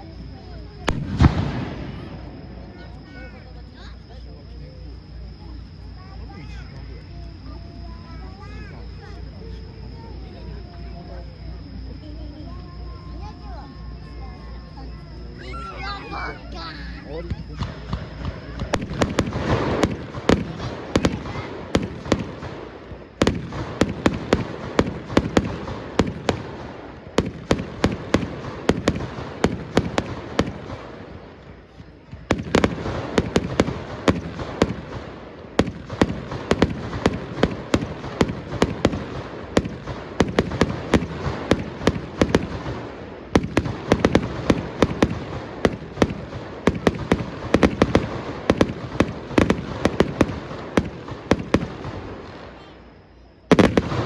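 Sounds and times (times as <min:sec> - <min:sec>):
fireworks bangs: 0:00.0 - 0:04.2, 0:14.3 - 0:54.0.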